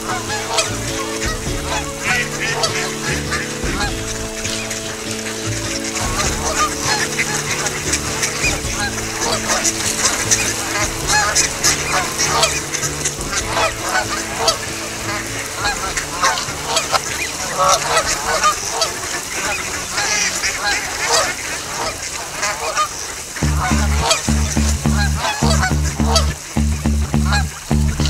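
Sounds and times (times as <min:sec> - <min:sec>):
ducks calling: 0:00.0 - 0:28.0
geese honking: 0:00.0 - 0:28.0.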